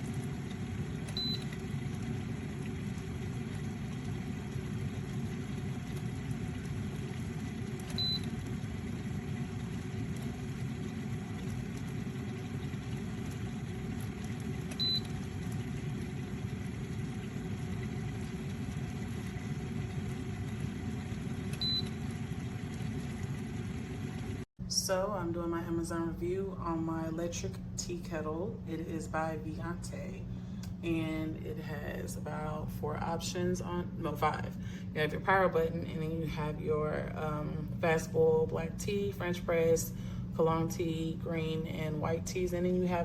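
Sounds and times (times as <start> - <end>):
electric kettle rumbling: 0.0 - 43.0.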